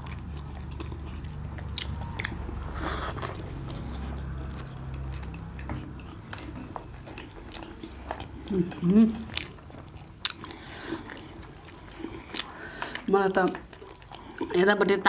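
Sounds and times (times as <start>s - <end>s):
chewing and biting food: 0.0s - 15.0s
low steady hum: 0.0s - 15.0s.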